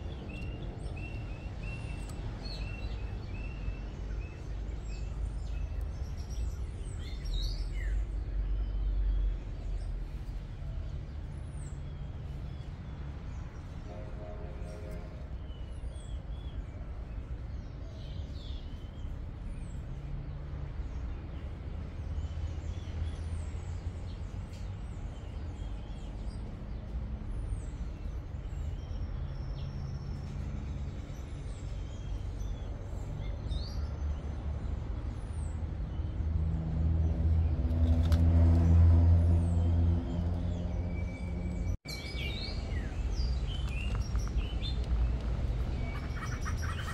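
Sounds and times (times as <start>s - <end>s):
small birds chirping: 0.0s - 36.4s, 39.4s - 46.9s
vehicle engine rumble: 0.0s - 46.9s.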